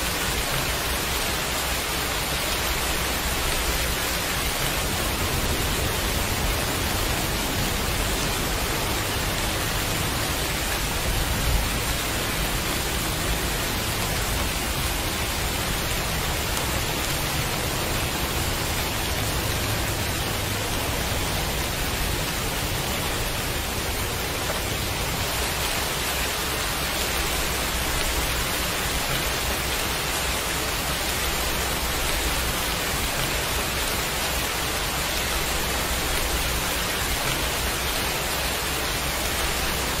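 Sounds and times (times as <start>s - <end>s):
heavy rain: 0.0s - 40.0s.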